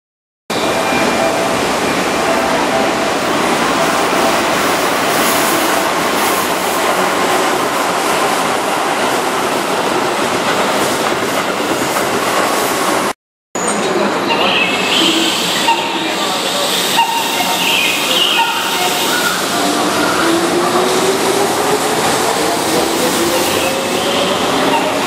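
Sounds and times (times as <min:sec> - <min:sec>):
electric train passing: 0:00.6 - 0:13.1, 0:13.7 - 0:25.0.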